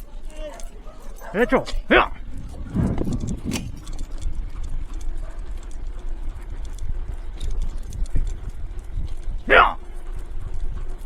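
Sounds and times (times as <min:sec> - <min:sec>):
dog paws pattering: 0:00.0 - 0:11.0
sled wheels rumbling on pavement: 0:00.0 - 0:11.0.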